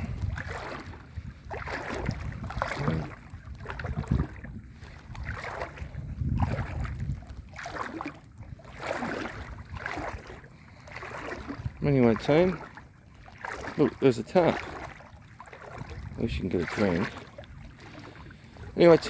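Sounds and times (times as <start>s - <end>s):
wading through floodwater: 0.0s - 19.0s.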